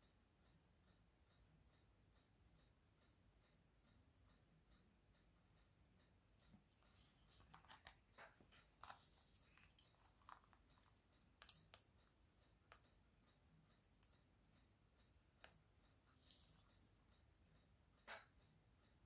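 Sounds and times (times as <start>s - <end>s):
sharp clicks: 0.0s - 19.0s
small clicks and taps: 0.0s - 19.0s.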